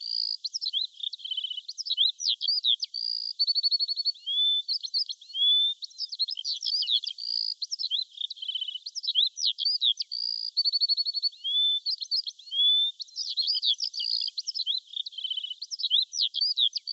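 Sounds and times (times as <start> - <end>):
songbird singing: 0.0 - 16.9.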